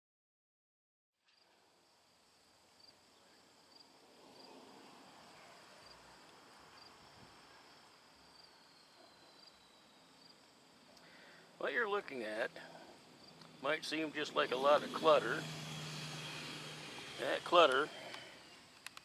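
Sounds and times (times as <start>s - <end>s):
pulsing insect trill: 1.8s - 19.0s.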